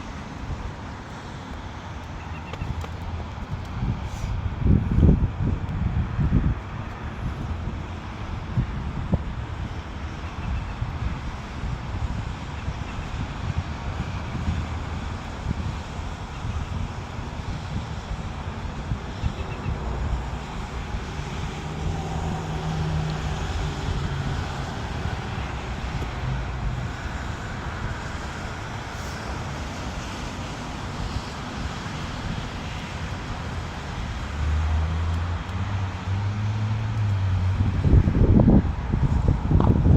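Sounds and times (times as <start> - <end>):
road traffic rumble: 0.0 - 39.9
vehicle engine hum: 0.0 - 39.9.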